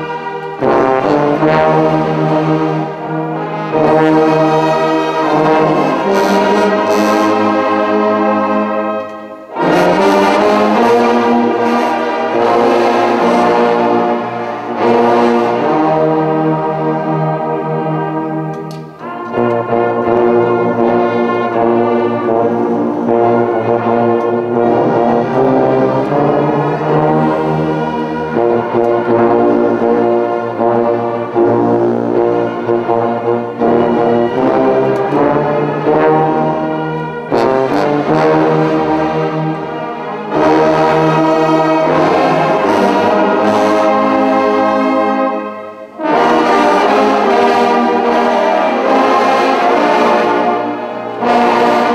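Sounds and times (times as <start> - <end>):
brass band playing chords: 0.0 - 51.9.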